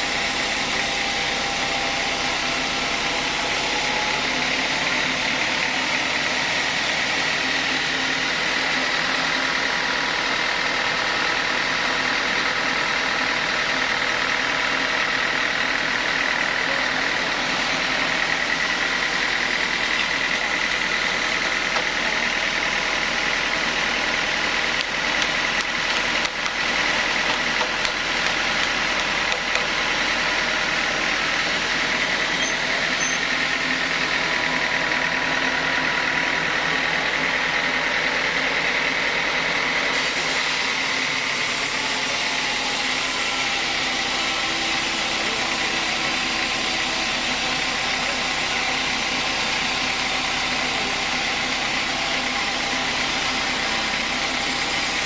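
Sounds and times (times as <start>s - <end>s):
sawmill machinery high whine: 0.0s - 55.0s.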